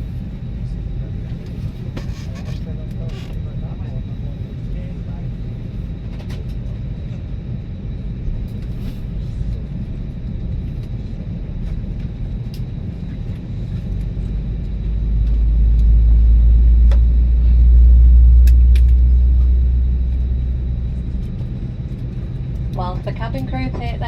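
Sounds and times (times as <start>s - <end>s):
airplane cabin rumble: 0.0s - 24.0s
deep rumble: 0.0s - 24.0s.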